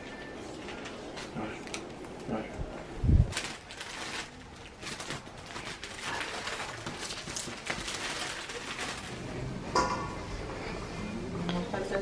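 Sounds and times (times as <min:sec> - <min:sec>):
rustling of bouquet materials: 0:00.0 - 0:12.0.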